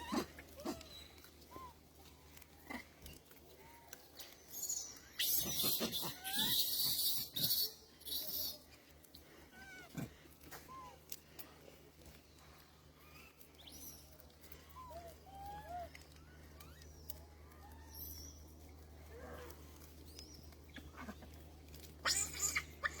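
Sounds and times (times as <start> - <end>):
small animals squeaking: 0.0 - 11.1, 13.0 - 18.6, 19.4 - 23.0
rustling crackle: 0.0 - 23.0.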